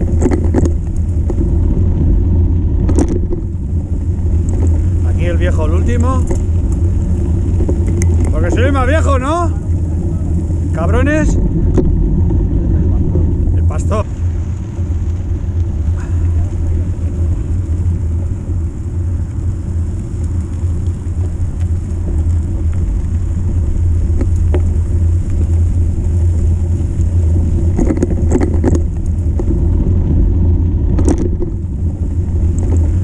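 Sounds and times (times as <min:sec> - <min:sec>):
bike tyres rolling on gravel: 0:00.0 - 0:33.0
wind buffeting microphone: 0:00.0 - 0:33.0.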